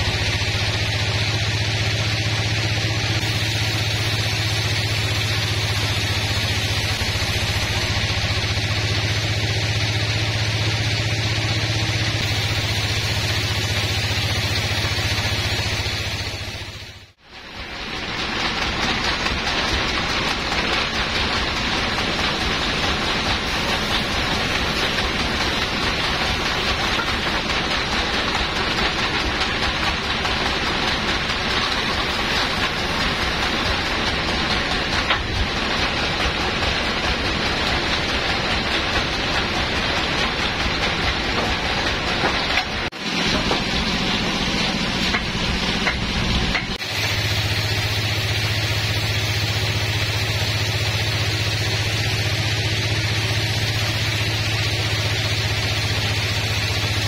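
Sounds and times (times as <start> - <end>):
band sawmill whirring: 0.0 - 57.0
low motor hum: 0.0 - 57.0.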